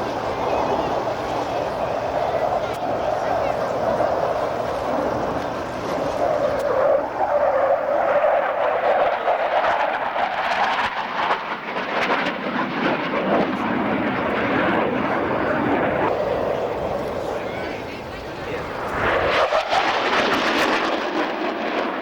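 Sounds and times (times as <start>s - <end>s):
aircraft engine rush: 0.0s - 22.0s.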